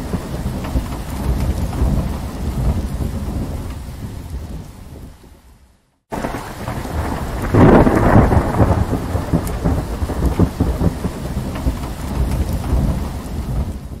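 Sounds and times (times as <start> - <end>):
rolling thunder: 0.0 - 5.3, 6.1 - 14.0
rain: 0.0 - 14.0.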